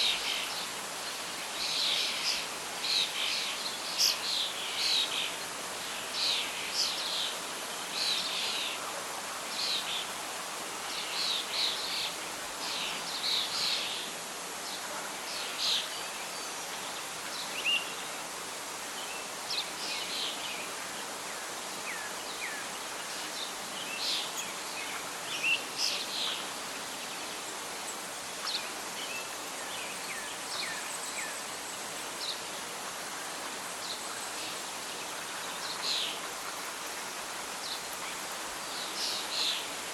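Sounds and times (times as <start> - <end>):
rustling leaves: 0.0 - 39.9
wind: 0.0 - 39.9.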